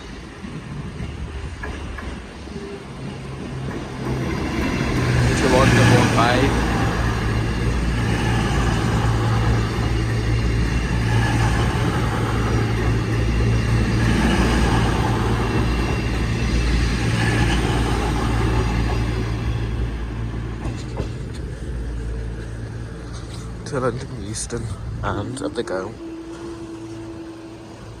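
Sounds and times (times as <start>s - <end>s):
diesel train engines droning: 0.0s - 28.0s.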